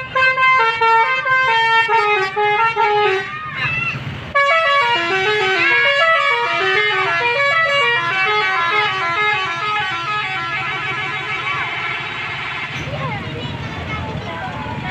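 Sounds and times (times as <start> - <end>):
bus air horns playing a tune: 0.0 - 3.6, 4.3 - 12.9
bus engine running: 0.0 - 14.9.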